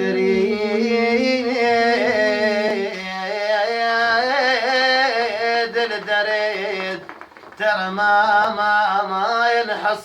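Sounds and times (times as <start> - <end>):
man singing wordless melody: 0.0 - 10.0.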